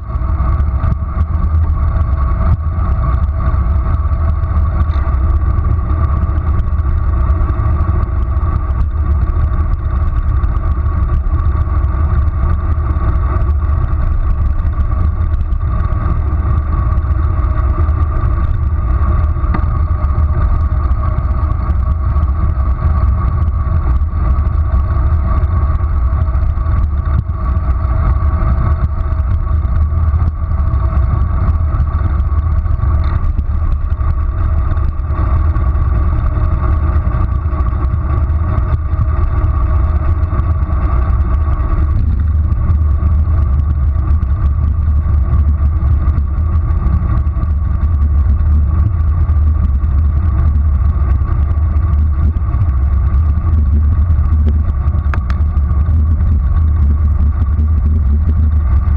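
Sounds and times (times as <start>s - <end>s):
faint steady hum: 0.0s - 58.9s
road noise: 0.0s - 58.9s
wind rushing over microphone: 0.0s - 58.9s.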